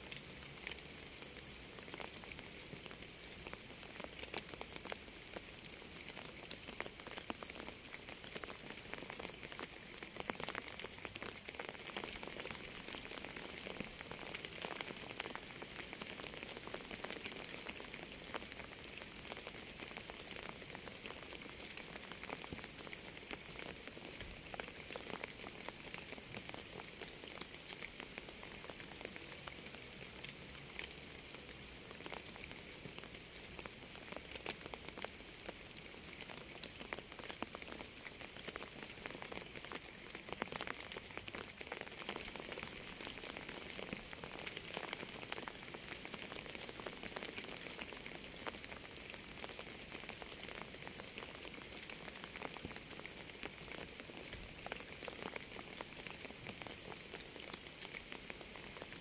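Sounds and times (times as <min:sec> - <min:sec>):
steady rainfall hiss: 0:00.0 - 0:59.0.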